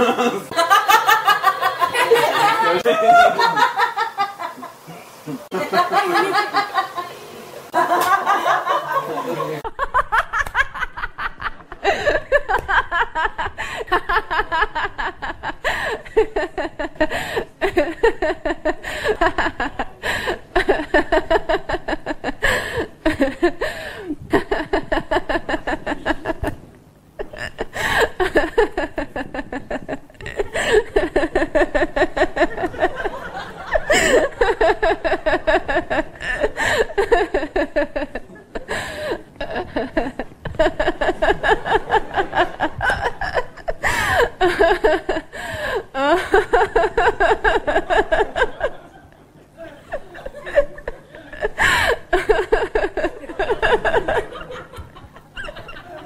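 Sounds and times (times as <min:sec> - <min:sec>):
people laughing: 0:00.0 - 0:26.6, 0:27.2 - 0:56.0.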